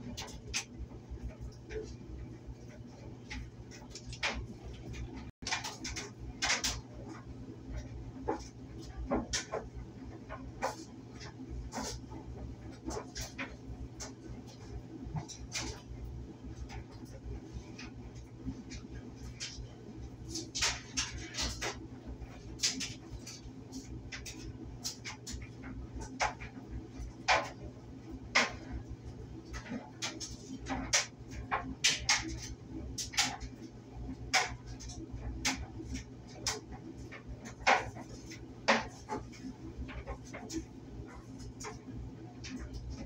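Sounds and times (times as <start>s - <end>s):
clothes dryer humming: 0.0s - 43.0s
dryer drum clicks and knocks: 0.0s - 43.0s.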